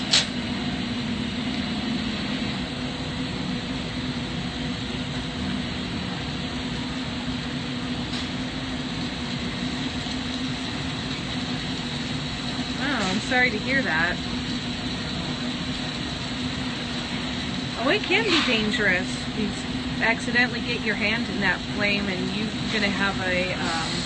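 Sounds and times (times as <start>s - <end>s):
torch flame rushing: 0.0s - 20.3s, 21.2s - 24.0s
constant low hum: 0.0s - 24.0s
ventilation fans: 0.0s - 24.0s.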